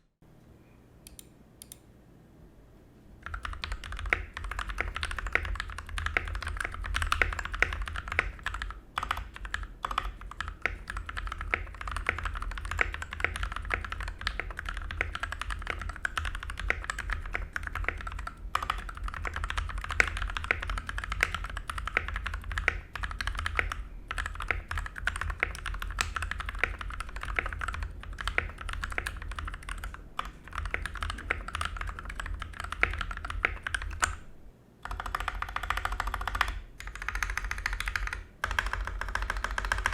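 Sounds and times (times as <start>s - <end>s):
mechanical keyboard typing: 3.2s - 39.9s.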